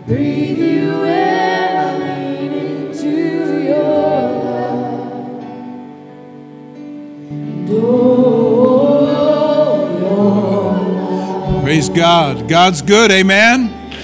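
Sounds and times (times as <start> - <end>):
band playing gospel song: 0.0 - 5.9, 7.5 - 14.0.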